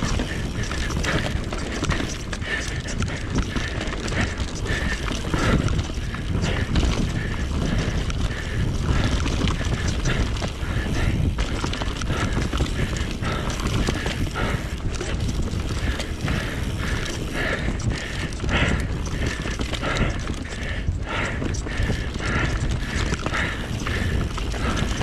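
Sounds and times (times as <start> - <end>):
bike rattling over roots: 0.0 - 25.0
wind rumble on microphone: 0.0 - 25.0.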